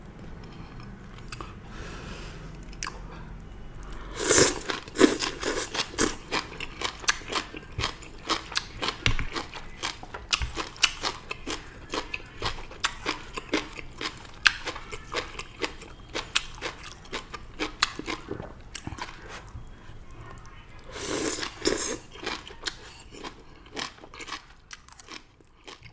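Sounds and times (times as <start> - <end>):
crunchy chewing: 2.5 - 25.9.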